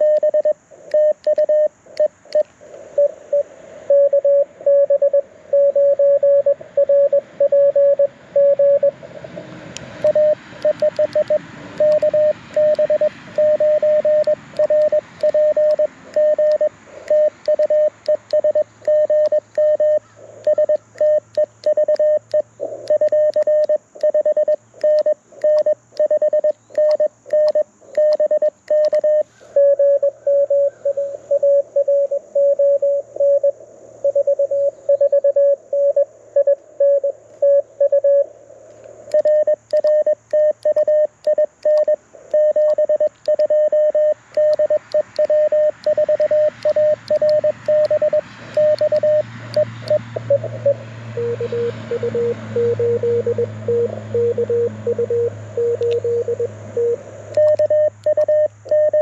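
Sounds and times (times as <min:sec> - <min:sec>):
morse code tone: 0:00.0 - 0:09.0, 0:10.0 - 0:38.3, 0:39.1 - 0:59.0
radio static hiss: 0:00.0 - 0:51.7.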